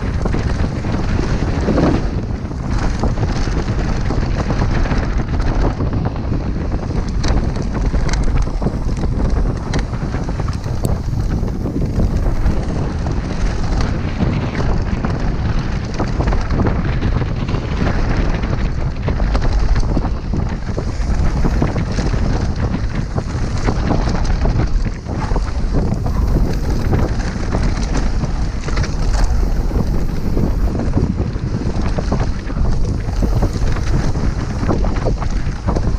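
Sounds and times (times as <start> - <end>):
bike rattling over bumps: 0.0 - 35.9
wind roar on microphone: 0.0 - 35.9.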